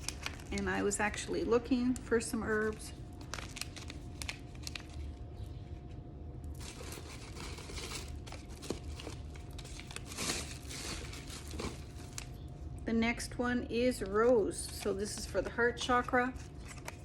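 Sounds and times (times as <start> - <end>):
packaging crinkling and rustling: 0.0 - 12.7, 14.0 - 17.0.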